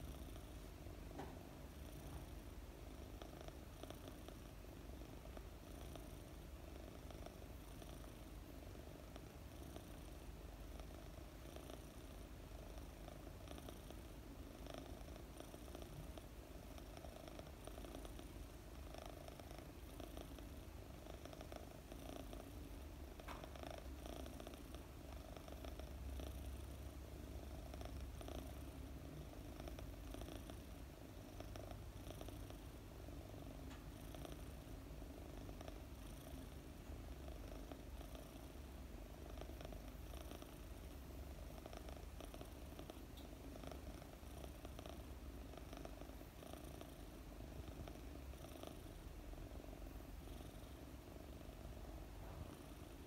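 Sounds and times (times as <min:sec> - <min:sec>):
kitten purring: 0:00.0 - 0:53.0.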